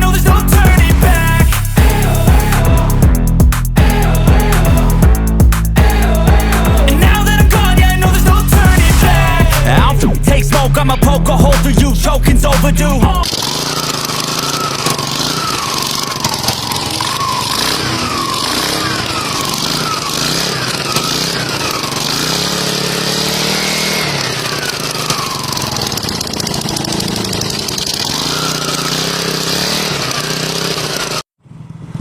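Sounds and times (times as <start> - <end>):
scooter engine revving: 0.0 - 32.0.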